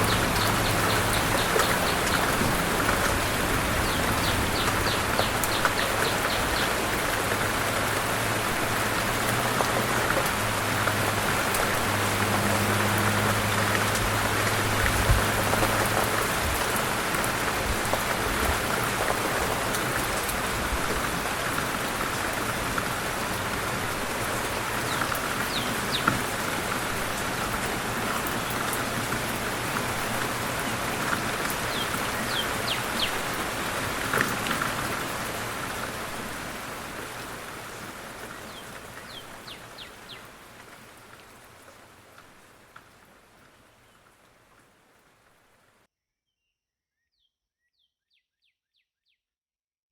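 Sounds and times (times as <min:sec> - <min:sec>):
rain falling on a surface: 0:00.0 - 0:45.9.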